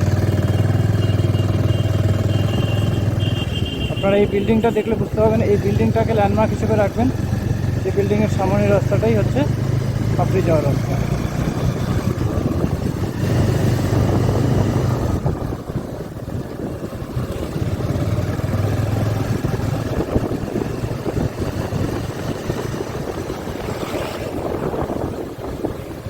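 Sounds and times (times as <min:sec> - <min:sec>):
motorcycle engine running: 0:00.0 - 0:26.0
wind rushing over microphone: 0:03.8 - 0:26.0.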